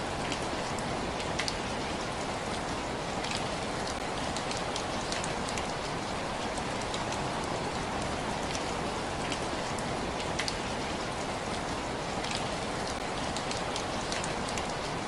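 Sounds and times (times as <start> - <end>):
raindrops striking a surface: 0.0 - 15.0
steady rain hiss: 0.0 - 15.0.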